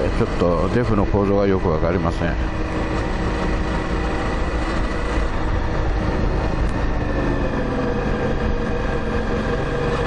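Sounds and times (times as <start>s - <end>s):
motorcycle engine running: 0.0s - 10.0s
wind rush on microphone: 0.0s - 10.0s.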